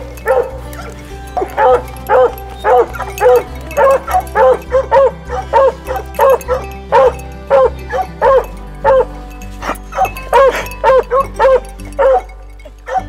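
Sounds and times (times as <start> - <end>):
background music: 0.0 - 13.0
dog barking: 0.2 - 12.3.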